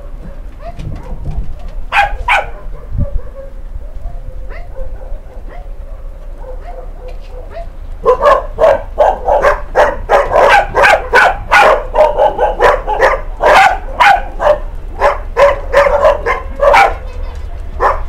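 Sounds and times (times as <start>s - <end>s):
dog barking: 0.1s - 17.2s, 17.8s - 18.0s.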